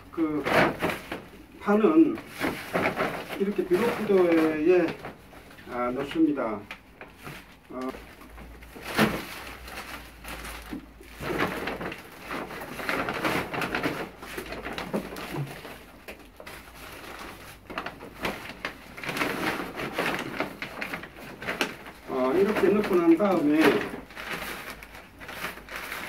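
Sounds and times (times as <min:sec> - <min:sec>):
plastic sack and newspaper rustling: 0:00.0 - 0:26.0.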